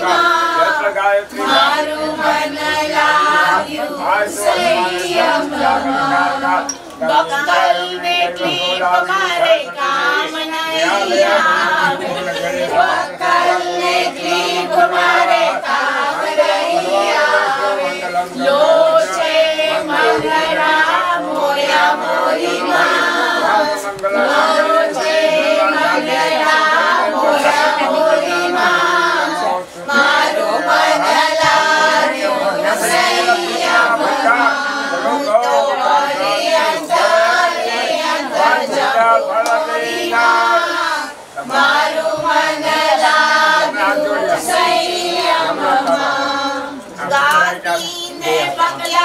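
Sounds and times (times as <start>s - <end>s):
group singing devotional song: 0.0s - 49.0s.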